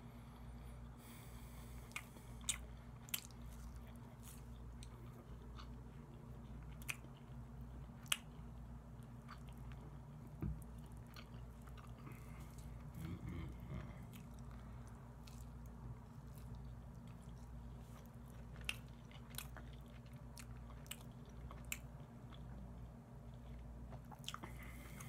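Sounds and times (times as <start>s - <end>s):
steady low hum: 0.0s - 25.0s
person chewing with wet clicks: 1.8s - 25.0s.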